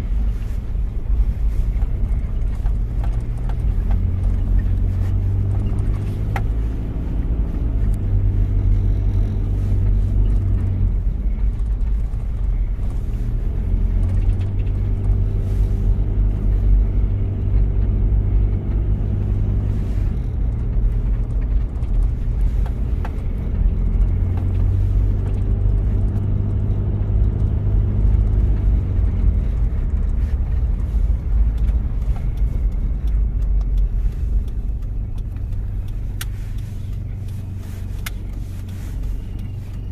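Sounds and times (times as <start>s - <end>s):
diesel engine revving while driving: 0.0s - 39.9s.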